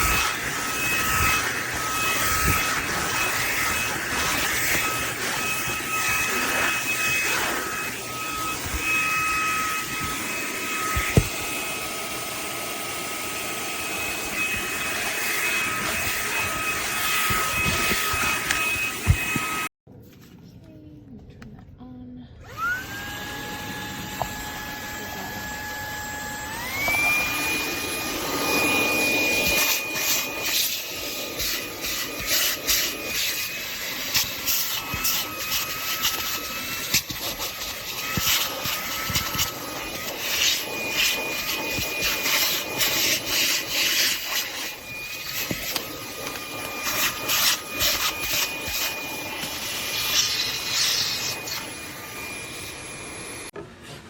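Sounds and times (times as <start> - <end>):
handheld vacuum whine: 0.0 - 19.7, 22.4 - 53.6.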